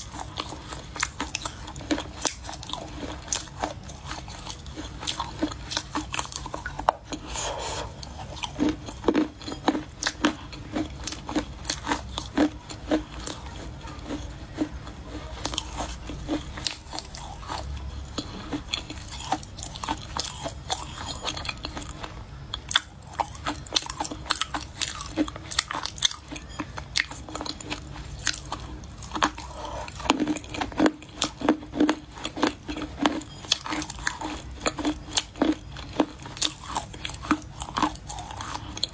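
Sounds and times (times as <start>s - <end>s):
crunching clay being chewed: 0.0s - 38.9s.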